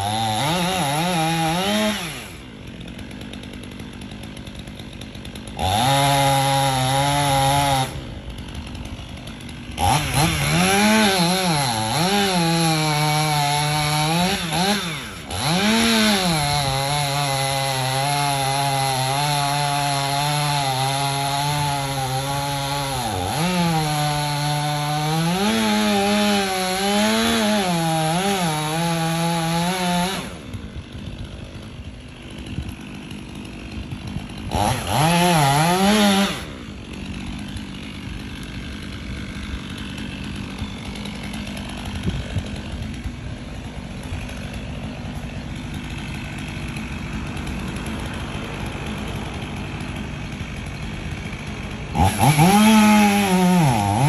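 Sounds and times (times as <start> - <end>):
chainsaw cutting wood: 0.0 - 54.0
chainsaw idling: 0.0 - 54.0.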